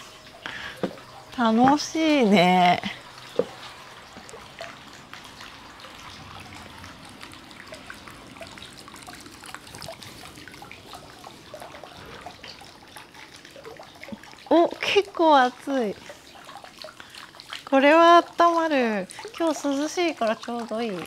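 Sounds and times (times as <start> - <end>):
water drips and splashes: 0.0 - 21.0
water trickling into pool: 0.0 - 21.0.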